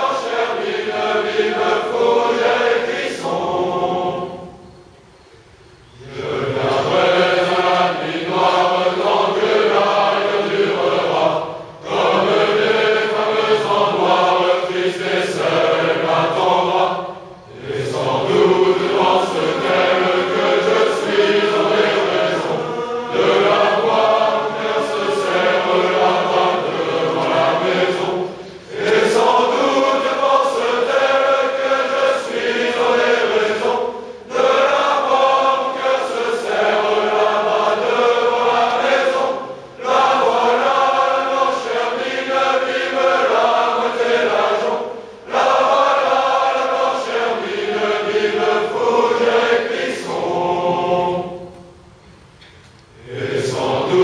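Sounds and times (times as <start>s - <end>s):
group of men singing: 6.0s - 51.5s, 53.0s - 54.0s.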